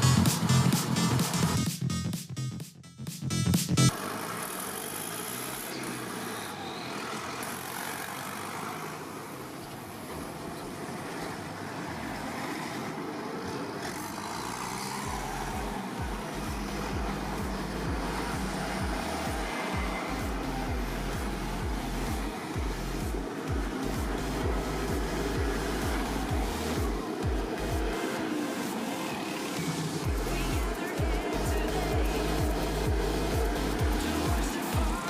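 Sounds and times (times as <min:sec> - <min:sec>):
tractor engine running: 0:03.3 - 0:35.0.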